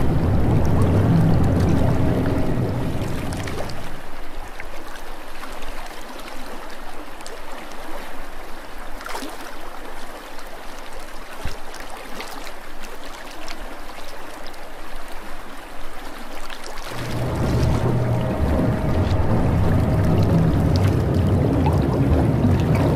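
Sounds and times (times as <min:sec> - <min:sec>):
water trickling and gurgling: 0:00.0 - 0:22.9.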